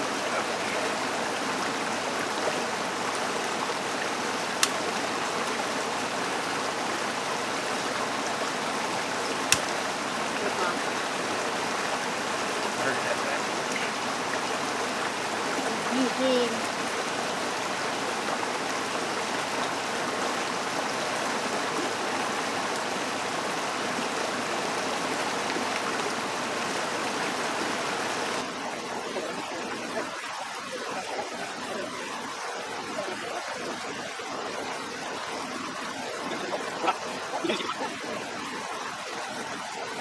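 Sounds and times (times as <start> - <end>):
water rushing over rocks: 0.0 - 40.0.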